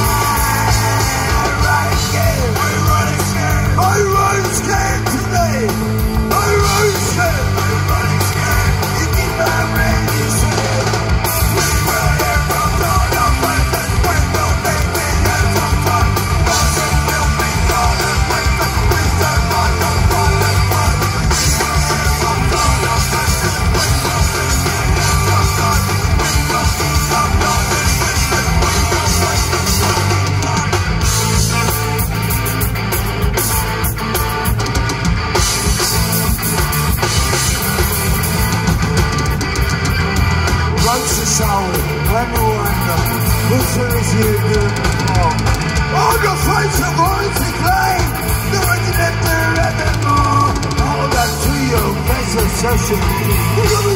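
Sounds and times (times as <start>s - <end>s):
drum kit: 0.0s - 53.9s
electric guitar: 0.0s - 53.9s.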